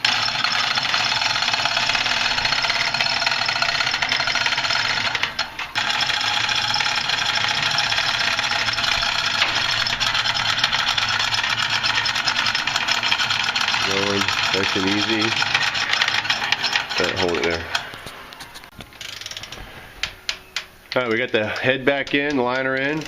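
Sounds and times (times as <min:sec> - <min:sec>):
air hoist pneumatic rattle: 0:00.0 - 0:20.7.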